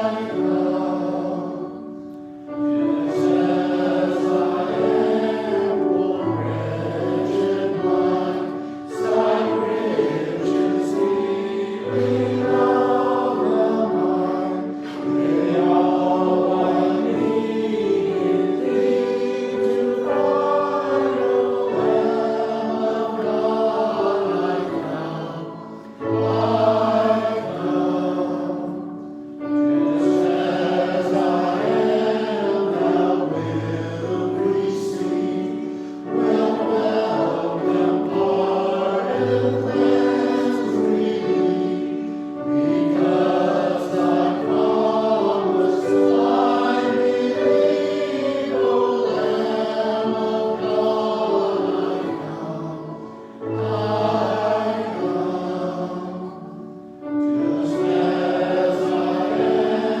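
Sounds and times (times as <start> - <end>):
group singing a hymn: 0.0 - 60.0.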